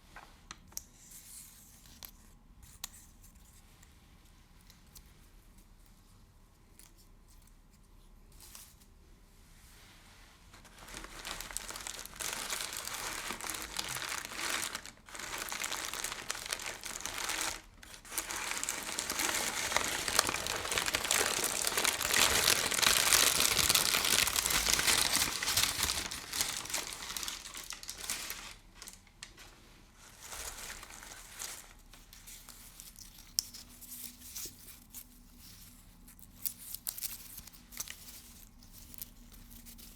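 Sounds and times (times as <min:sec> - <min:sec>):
crinkly material crumpling: 0:04.9 - 0:09.0, 0:09.6 - 0:39.9.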